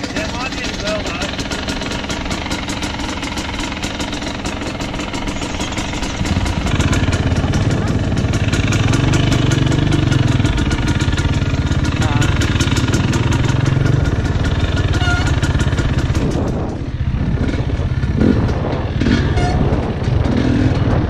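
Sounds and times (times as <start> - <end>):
dirt bike engine: 0.0 - 21.0.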